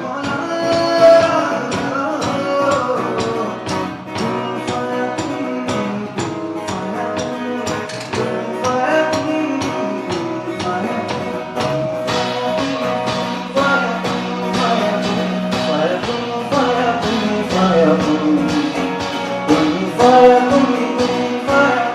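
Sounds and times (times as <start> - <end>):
live band music: 0.0 - 21.9.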